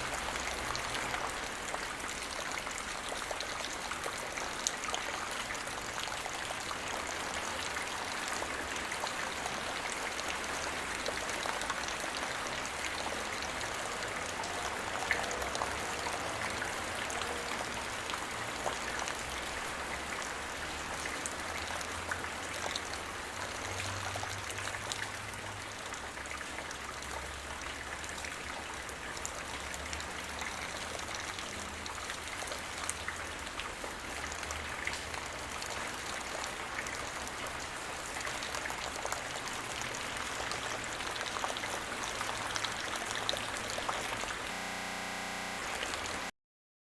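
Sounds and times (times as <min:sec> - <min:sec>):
raindrops pattering on a surface: 0:00.0 - 0:44.4
steady rainfall: 0:00.0 - 0:46.3.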